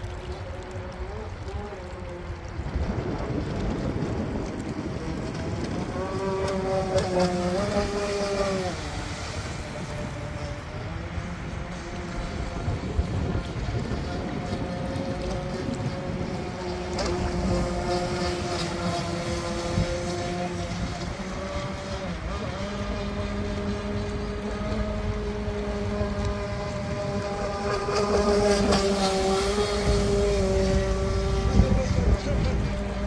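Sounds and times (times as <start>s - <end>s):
rc speedboat motor whine: 0.0s - 33.0s
wind buffeting microphone: 0.0s - 33.0s.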